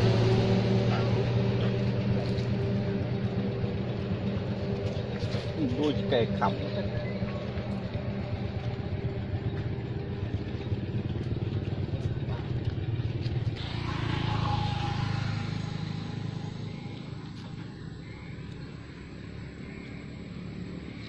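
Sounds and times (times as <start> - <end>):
motor humming: 0.0 - 20.3.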